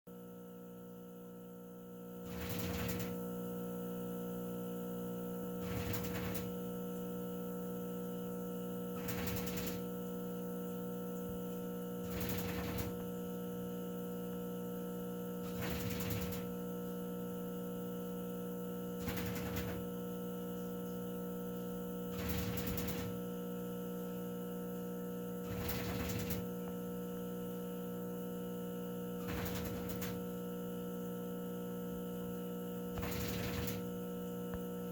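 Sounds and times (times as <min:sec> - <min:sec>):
steady electrical hum: 0:00.2 - 0:34.9.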